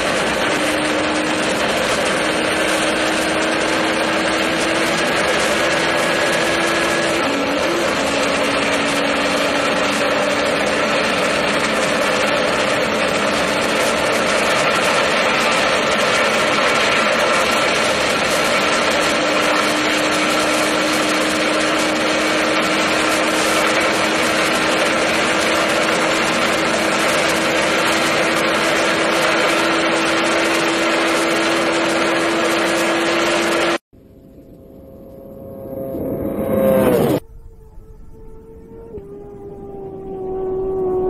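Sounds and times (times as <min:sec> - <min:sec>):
motorcycle engine at full speed: 0:00.0 - 0:41.0.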